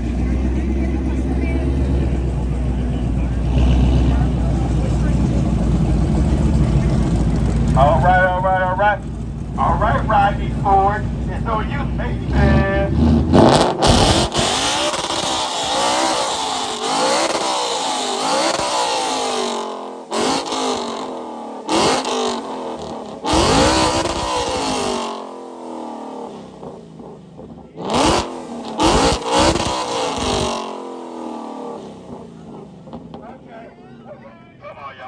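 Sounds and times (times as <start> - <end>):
car engine revving: 0.0 - 33.7.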